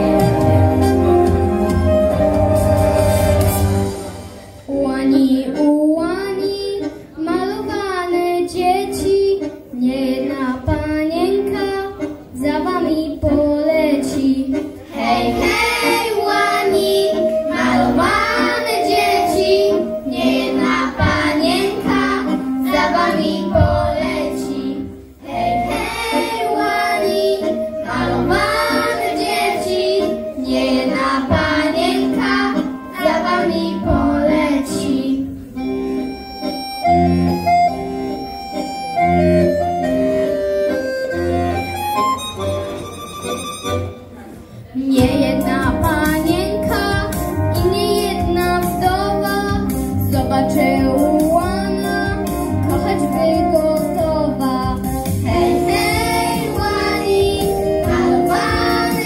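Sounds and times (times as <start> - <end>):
children singing into microphones: 0.0 - 0.8, 4.5 - 38.1, 44.5 - 59.0
recorded backing track: 0.0 - 59.0.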